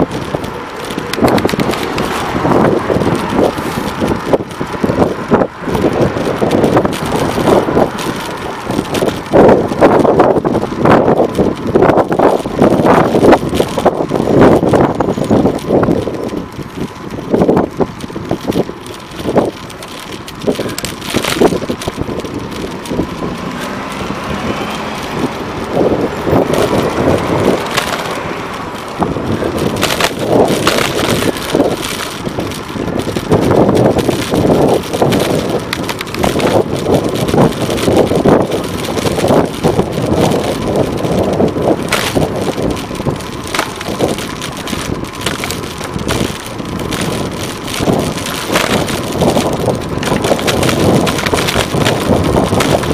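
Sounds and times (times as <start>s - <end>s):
bike rattles and knocks: 0.0s - 52.9s
cars passing: 0.0s - 52.9s
road and wind noise: 0.0s - 52.9s.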